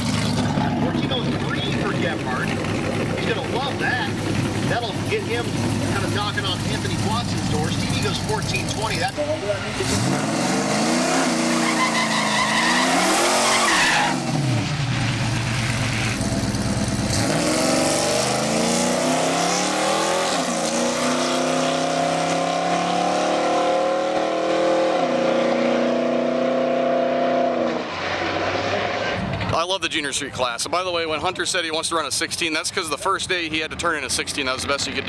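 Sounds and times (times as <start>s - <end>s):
engine at full throttle: 0.0s - 29.4s.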